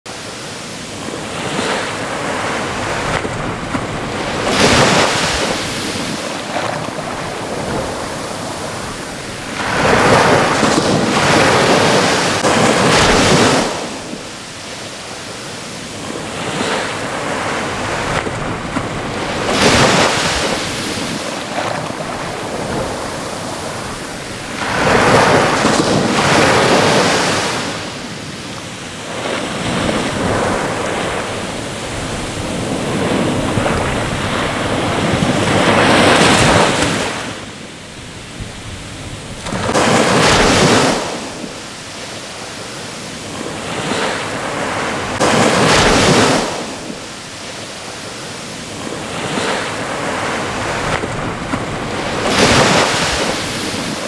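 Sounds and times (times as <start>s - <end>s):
ocean waves crashing on shore: 0.1s - 54.0s.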